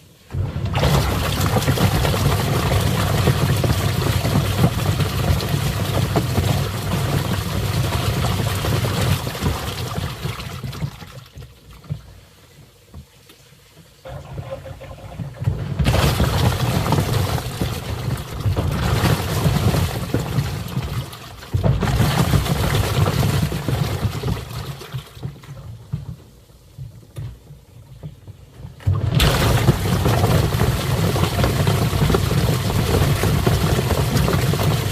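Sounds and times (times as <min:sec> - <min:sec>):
water churning and sloshing: 0:00.0 - 0:12.5, 0:14.0 - 0:26.6, 0:28.1 - 0:34.9
washing machine motor hum: 0:00.3 - 0:11.2, 0:14.0 - 0:26.0, 0:28.3 - 0:34.9.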